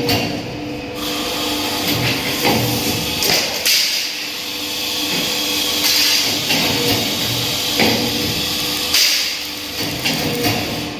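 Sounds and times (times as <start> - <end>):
workshop hiss and hum: 0.0 - 10.9.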